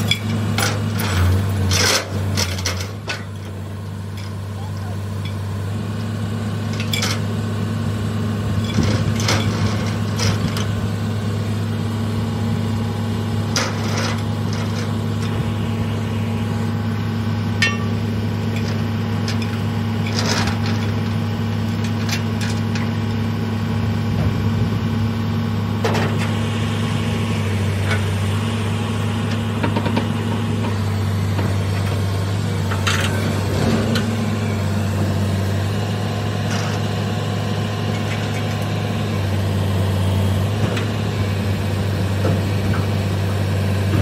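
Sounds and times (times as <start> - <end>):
excavator engine idling: 0.0 - 44.0.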